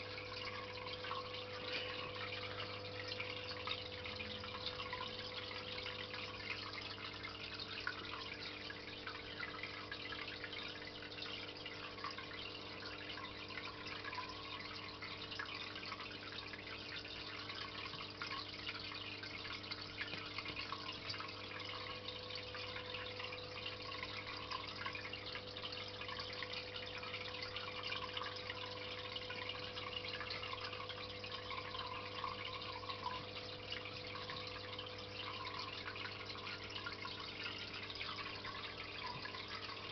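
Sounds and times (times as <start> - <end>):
pump motor hum: 0.0 - 39.9
water trickling and dripping: 0.0 - 39.9.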